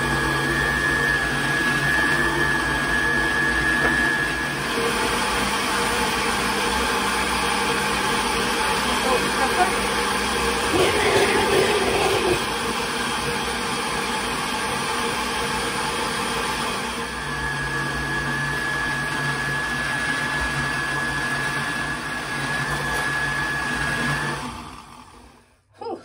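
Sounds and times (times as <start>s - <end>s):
blender motor running: 0.0s - 25.6s
high blender whine: 0.0s - 25.7s.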